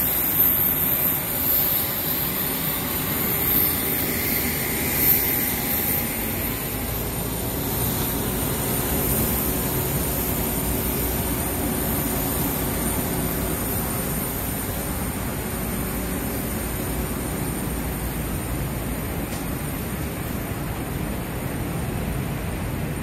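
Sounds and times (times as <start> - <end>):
constant rush of air: 0.0 - 23.0
high jet whine: 0.0 - 23.0.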